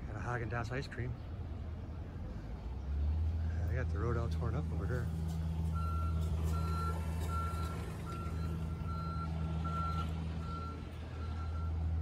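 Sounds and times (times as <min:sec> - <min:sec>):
diesel engine running: 0:01.2 - 0:12.0.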